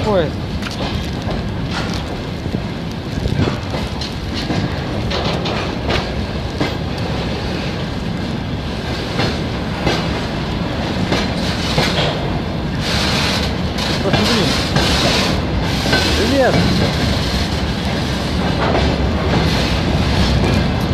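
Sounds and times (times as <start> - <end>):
train rumble: 0.0 - 20.9
train wheels clickety-clack: 0.0 - 20.9.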